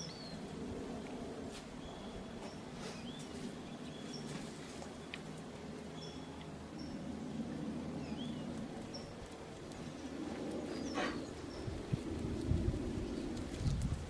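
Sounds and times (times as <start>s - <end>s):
small birds chirping: 0.0s - 0.6s, 1.5s - 13.9s
steady low background hum: 0.0s - 14.0s.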